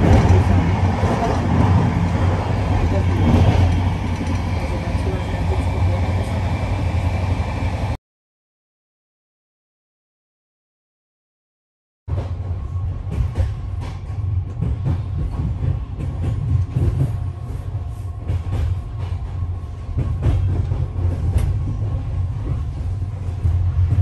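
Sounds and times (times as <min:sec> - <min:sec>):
train interior rumble: 0:00.0 - 0:08.0, 0:12.1 - 0:24.0.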